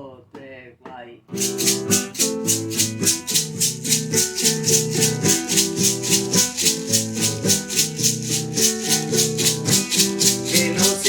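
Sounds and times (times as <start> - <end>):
maracas shaken: 1.3 - 11.0
plucked string chords: 1.4 - 11.0.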